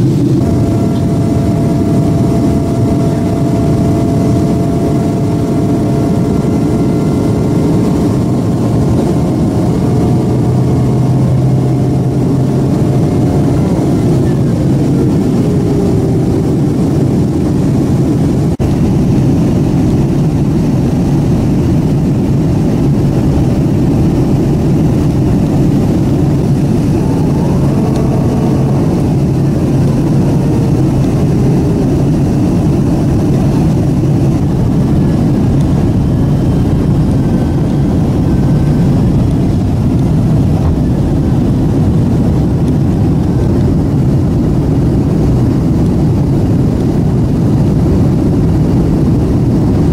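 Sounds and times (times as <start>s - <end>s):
jet engine and airflow roar: 0.0s - 49.9s.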